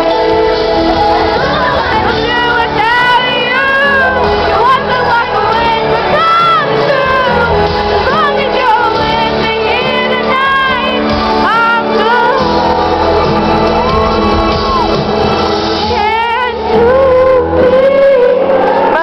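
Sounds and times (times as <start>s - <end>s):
audience noise: 0.0s - 19.0s
backing track: 0.0s - 19.0s
woman singing pop ballad: 0.0s - 19.0s.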